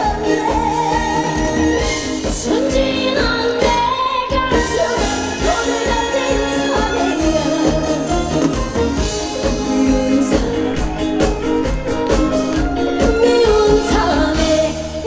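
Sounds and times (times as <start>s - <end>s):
live band playing: 0.0s - 15.0s
woman singing: 0.0s - 15.0s.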